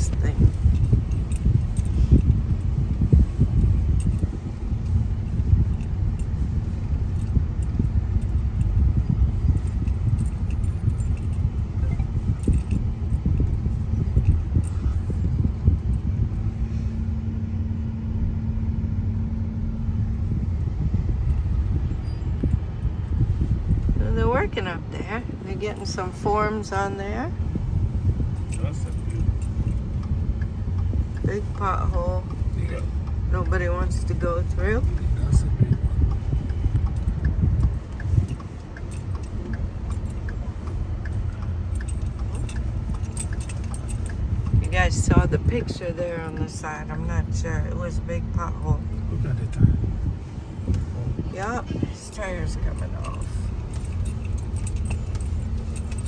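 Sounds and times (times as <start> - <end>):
faint regular ticking: 0.0 - 17.4, 19.8 - 56.0
car driving on rough road: 0.0 - 56.0
low steady hum: 0.0 - 56.0.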